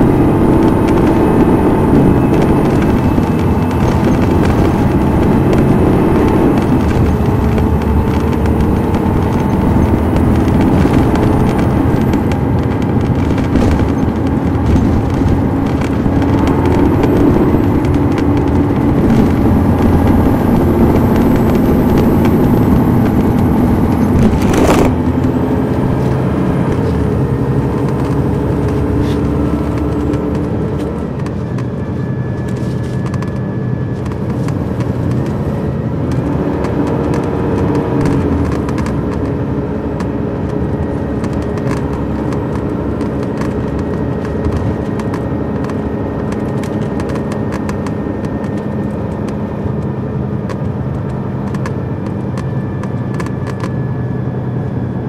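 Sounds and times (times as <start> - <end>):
diesel bus engine running: 0.0 - 55.0.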